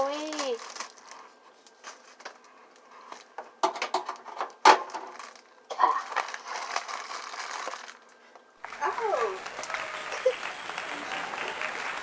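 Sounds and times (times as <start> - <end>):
packaging rustling and crinkling: 0.0 - 9.8.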